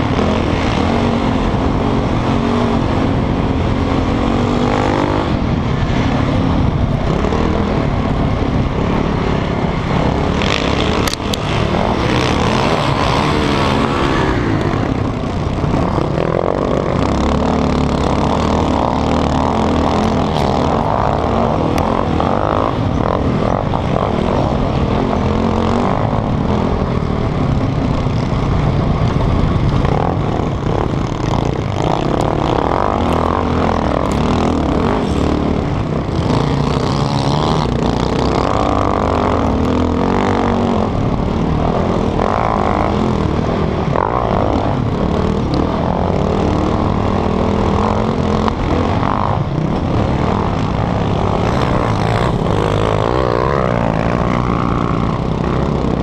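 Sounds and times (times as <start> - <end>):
other quad engines: 0.0 - 56.0
quad engine revving: 0.0 - 56.0.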